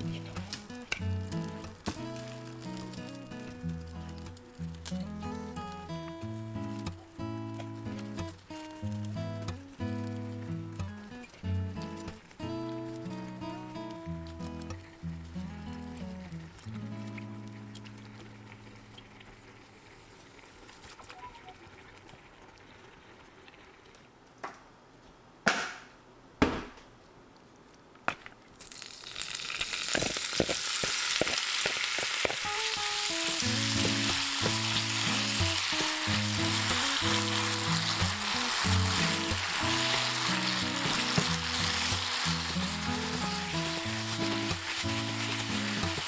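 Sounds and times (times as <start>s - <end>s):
potatoes sizzling in hot oil: 0.0s - 21.5s, 28.6s - 46.0s.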